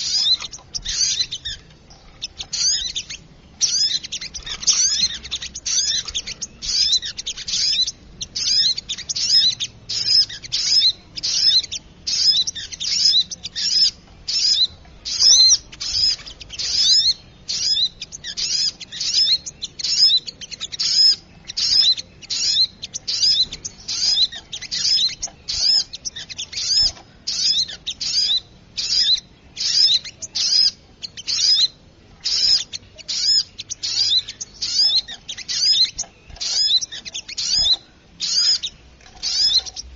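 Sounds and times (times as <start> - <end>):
bird high-pitched chirping: 0.0 - 39.9.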